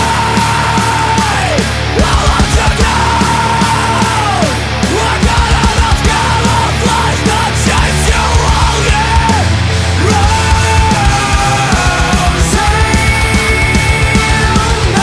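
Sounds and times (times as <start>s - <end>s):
loud post-hardcore band music: 0.0s - 15.0s.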